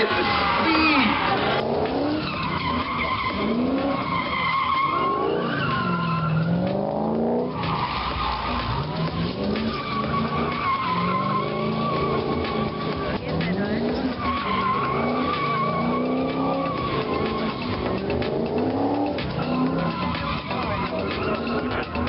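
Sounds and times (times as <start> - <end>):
car engine revving: 0.0 - 22.0
tyres squealing: 0.0 - 22.0.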